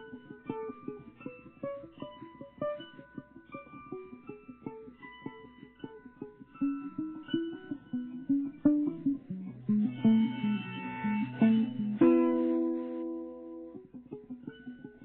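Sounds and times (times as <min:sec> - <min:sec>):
plucked guitar tune: 0:00.0 - 0:15.0.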